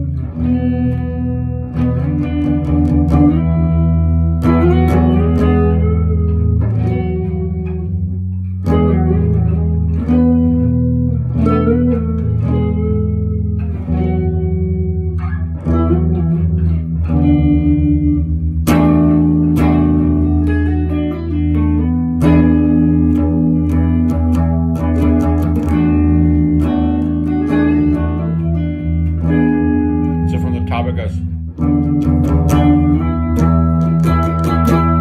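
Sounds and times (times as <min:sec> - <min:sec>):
electric guitar through amplifier: 0:00.0 - 0:35.0.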